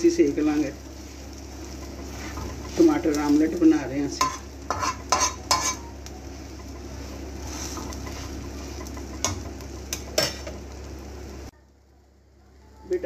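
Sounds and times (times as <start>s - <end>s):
omelette sizzling in oil: 0.0s - 11.6s.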